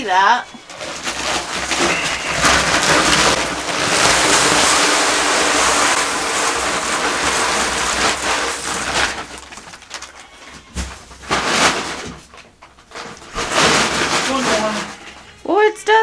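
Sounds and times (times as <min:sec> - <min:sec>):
feed pouring into hopper: 0:00.0 - 0:15.6.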